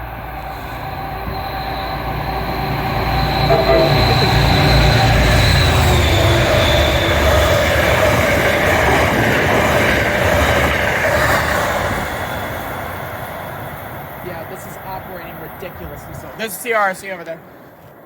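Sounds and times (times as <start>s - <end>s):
train wheels squealing: 0.0s - 14.8s
train cars rumbling on rails: 0.0s - 18.0s.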